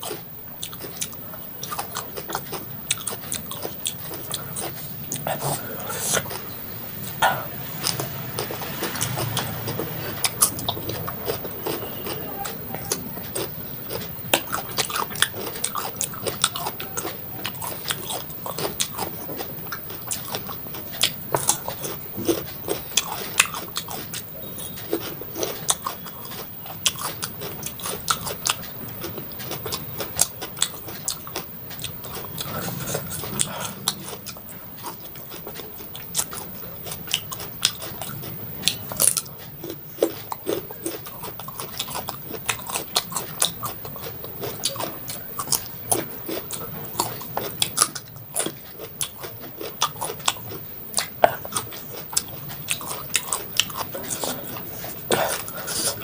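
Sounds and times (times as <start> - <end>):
crunching raw vegetables: 0.0 - 56.0.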